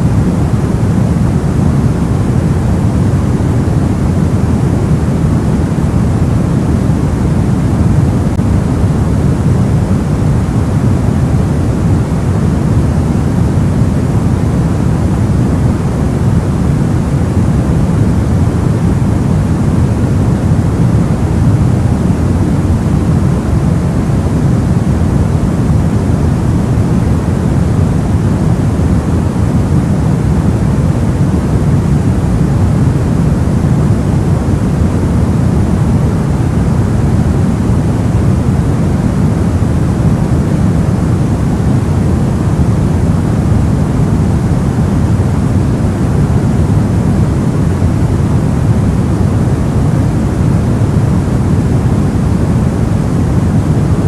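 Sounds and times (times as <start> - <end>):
steady deep white noise: 0.0 - 54.0.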